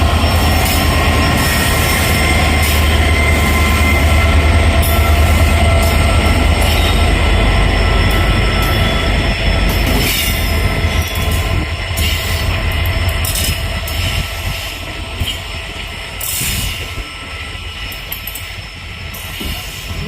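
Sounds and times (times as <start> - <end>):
high wheel squeal: 0.0 - 20.0
train coaches rumbling past: 0.0 - 20.0.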